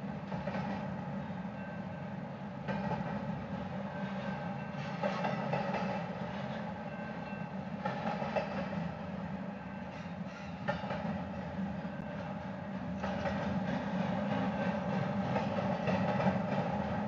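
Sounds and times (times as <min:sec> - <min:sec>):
train wheel clatter: 0:00.0 - 0:01.9, 0:02.6 - 0:17.0
freight train rumbling on rails: 0:00.0 - 0:17.0.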